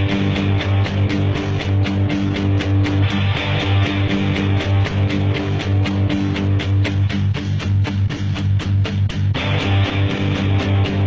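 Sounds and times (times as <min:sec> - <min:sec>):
bass line: 0:00.0 - 0:11.0
guitar: 0:00.0 - 0:11.0
steady beat: 0:00.0 - 0:11.0.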